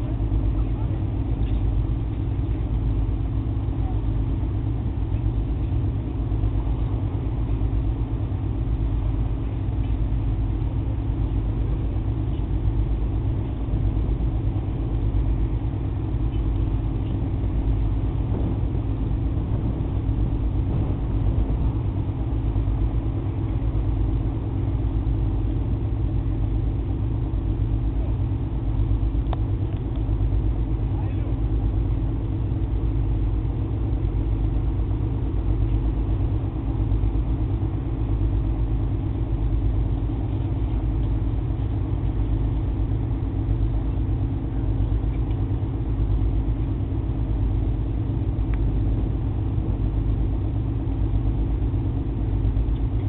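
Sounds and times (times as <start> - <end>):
ship diesel engine drone: 0.0 - 53.0.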